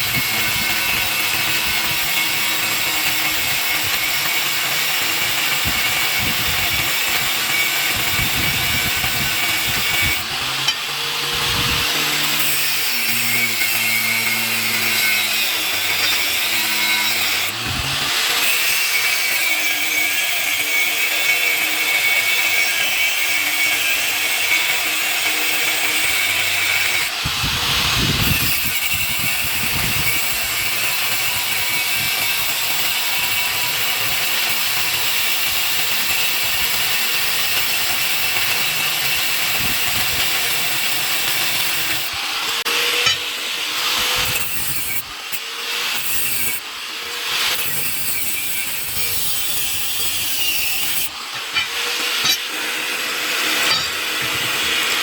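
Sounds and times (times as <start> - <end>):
power tool grinding steel: 0.0 - 55.0.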